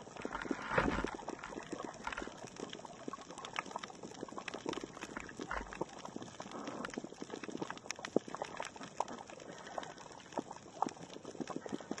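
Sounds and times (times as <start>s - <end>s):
snapping shrimp clicks underwater: 0.0s - 12.0s.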